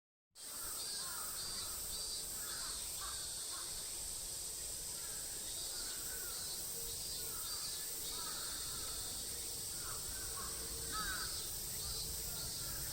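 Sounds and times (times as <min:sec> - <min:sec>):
birds calling: 0:00.4 - 0:03.9, 0:04.9 - 0:12.9
pulsing high insect buzz: 0:00.4 - 0:12.9.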